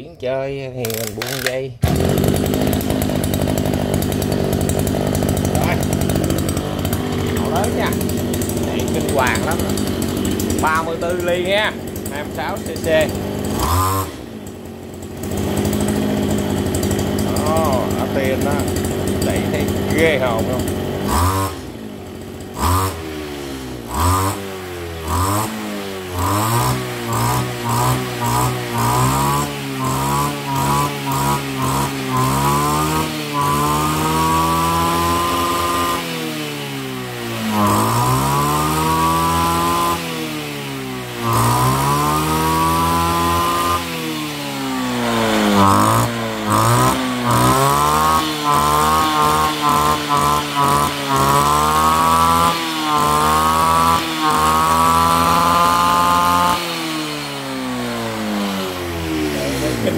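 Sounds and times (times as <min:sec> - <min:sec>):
brush cutter engine revving: 0:00.2 - 0:59.9.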